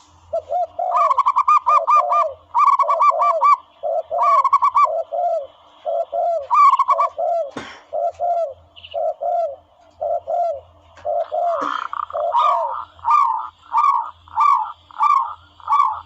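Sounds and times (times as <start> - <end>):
doves cooing: 0.2 - 16.0.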